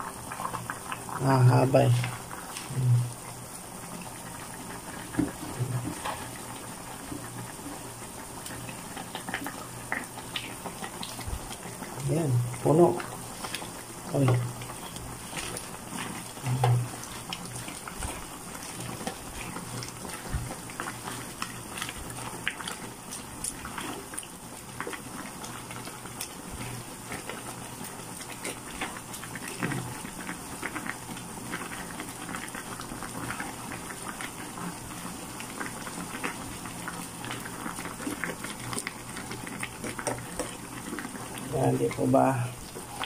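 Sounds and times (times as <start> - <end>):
soup bubbling in a pan: 0.0 - 43.0
steady crackling: 0.0 - 43.0
spatula stirring leaves in broth: 0.2 - 43.0.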